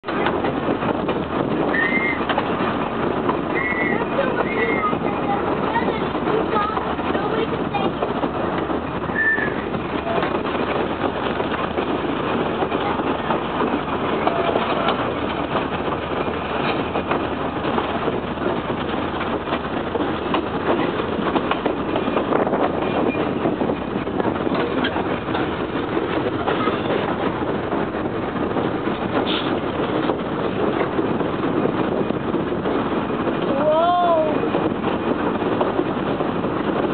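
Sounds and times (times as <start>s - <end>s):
train rumbling on track: 0.0s - 36.9s.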